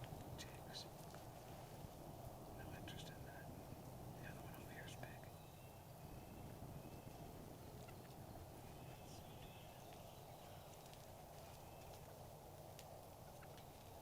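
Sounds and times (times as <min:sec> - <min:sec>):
distant wild turkey calls: 0:02.4 - 0:14.0.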